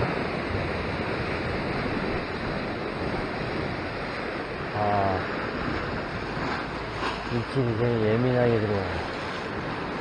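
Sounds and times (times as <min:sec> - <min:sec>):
surf washing against rocks: 0:00.0 - 0:10.0
wind noise on microphone: 0:00.0 - 0:10.0.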